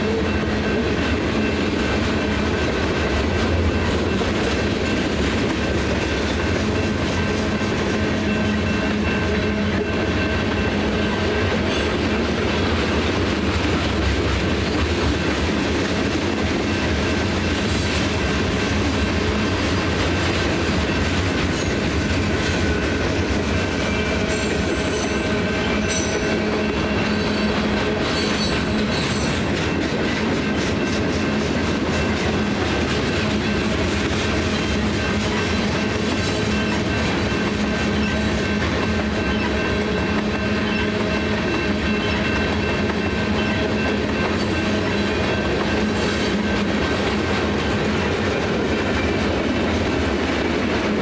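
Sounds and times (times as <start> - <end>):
freight train rumbling past: 0.0 - 51.0
train wheels clickety-clack: 0.0 - 51.0.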